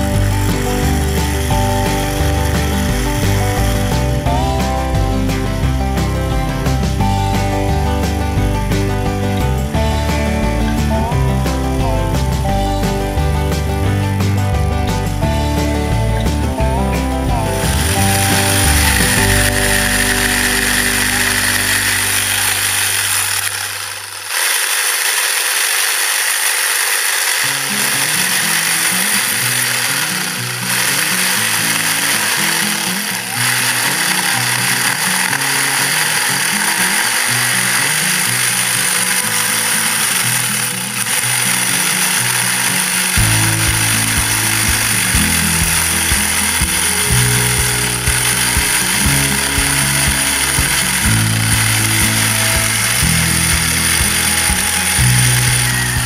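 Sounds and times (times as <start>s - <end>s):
music with stepping bass line: 0.0s - 24.1s, 28.3s - 56.0s
reciprocating saw cutting log: 0.0s - 56.0s.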